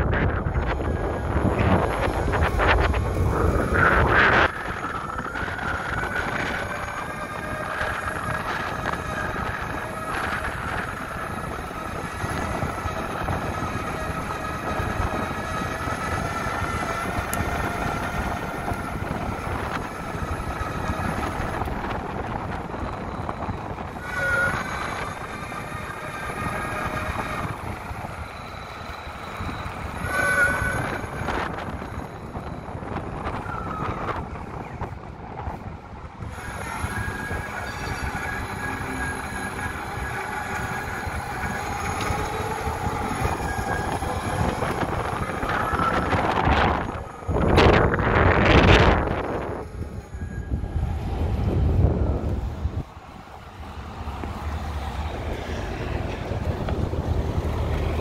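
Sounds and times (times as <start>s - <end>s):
electric motors whining: 0.0s - 58.0s
wheels rumbling on ground: 0.0s - 58.0s
wind buffeting microphone: 0.0s - 58.0s.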